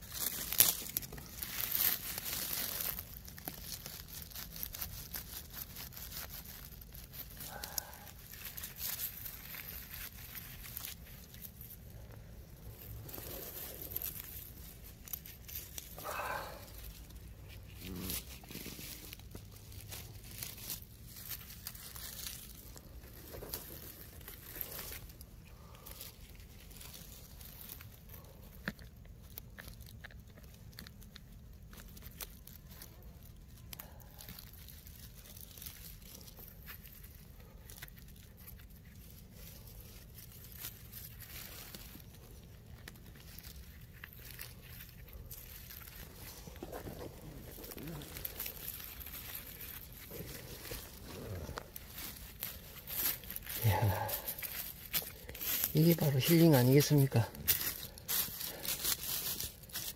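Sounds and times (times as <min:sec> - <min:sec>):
dry leaf litter crunching: 0:00.0 - 0:59.9.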